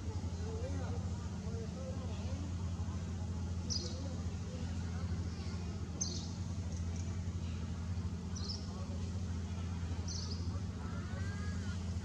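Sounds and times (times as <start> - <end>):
low motor-like hum: 0.0 - 12.0.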